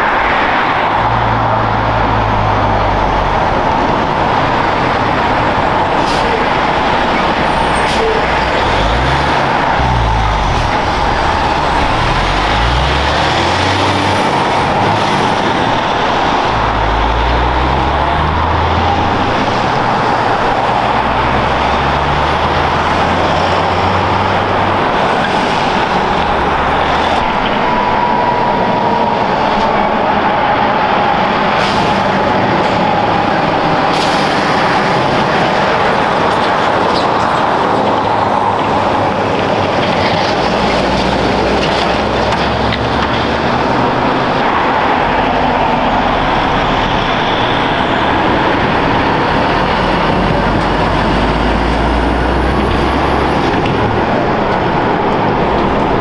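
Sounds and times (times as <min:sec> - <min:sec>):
diesel truck engines: 0:00.0 - 0:56.0
tyre and road noise: 0:00.0 - 0:56.0.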